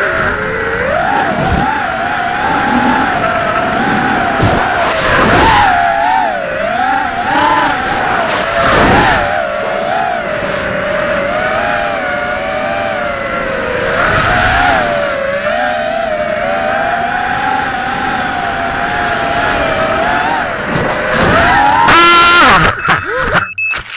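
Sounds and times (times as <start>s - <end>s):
drone motors whining: 0.0s - 23.8s.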